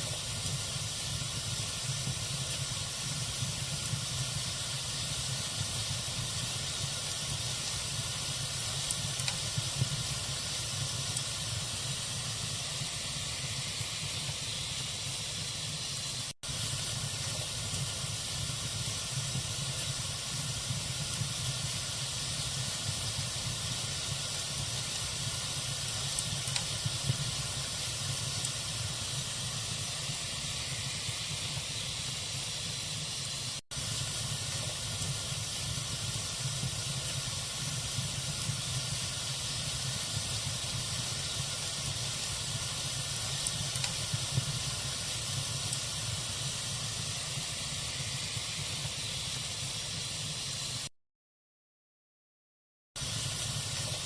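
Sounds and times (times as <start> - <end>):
log fire hissing and crackling: 0.0 - 50.9, 53.0 - 54.0.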